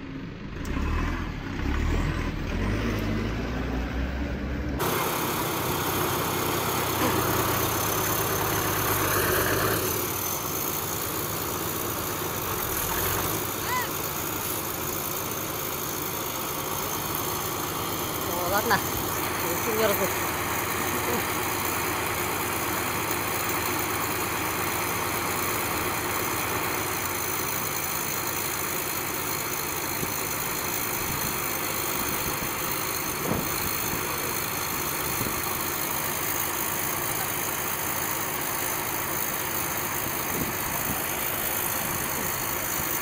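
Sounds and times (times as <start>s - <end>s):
tractor diesel engine idling: 0.0s - 43.0s.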